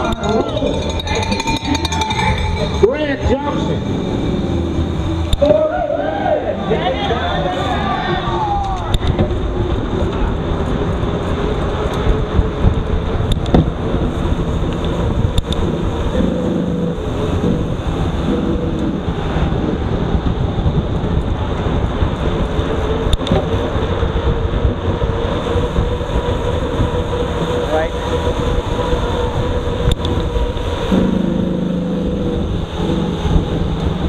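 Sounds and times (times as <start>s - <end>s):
bike rolling on pavement: 0.0s - 34.0s
wind buffeting microphone: 0.0s - 34.0s.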